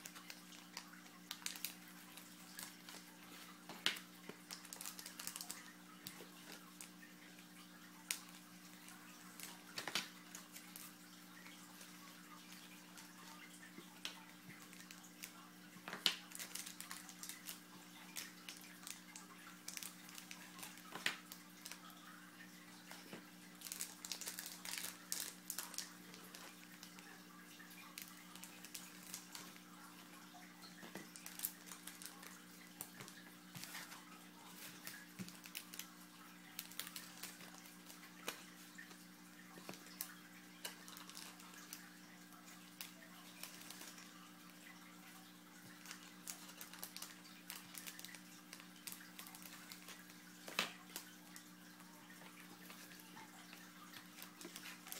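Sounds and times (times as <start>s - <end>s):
wrappers crinkling: 0.0s - 7.2s, 7.8s - 22.1s, 22.9s - 54.9s.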